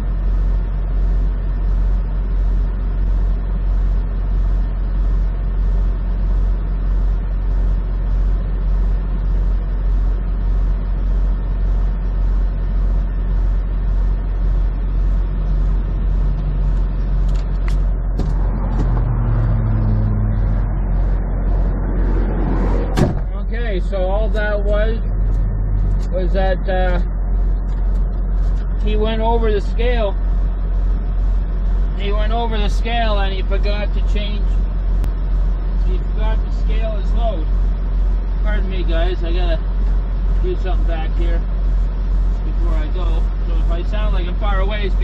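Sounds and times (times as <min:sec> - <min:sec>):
diesel engine idling: 0:00.0 - 0:45.0
low droning tone: 0:00.0 - 0:45.0.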